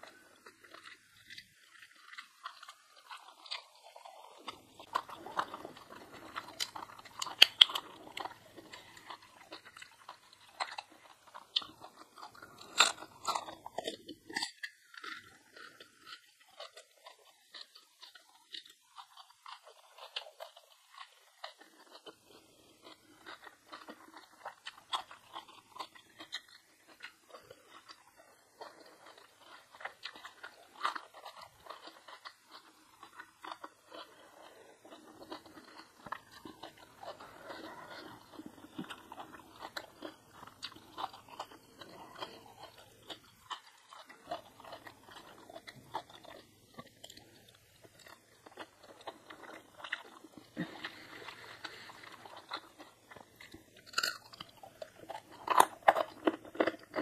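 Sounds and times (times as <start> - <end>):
chewing: 0.0 - 57.0
crunching bites of food: 0.0 - 57.0.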